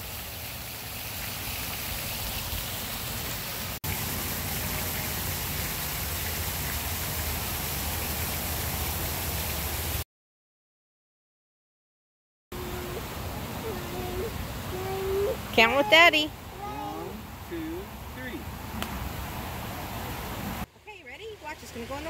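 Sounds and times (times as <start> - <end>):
falling water rushing: 0.0 - 10.0, 12.6 - 20.7.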